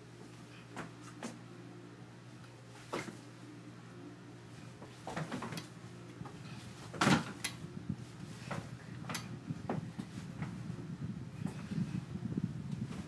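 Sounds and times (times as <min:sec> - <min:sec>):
electric fan motor hum: 0:00.0 - 0:13.0.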